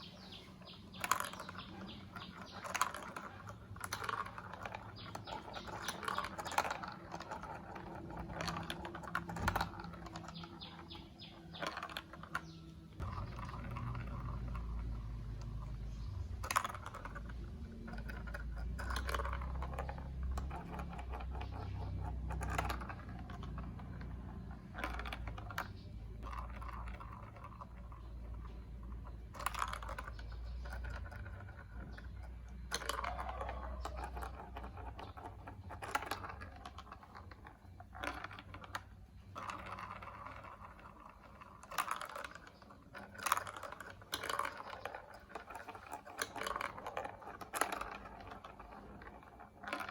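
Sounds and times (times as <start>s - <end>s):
plastic pieces clicking and rattling: 0.0s - 49.9s.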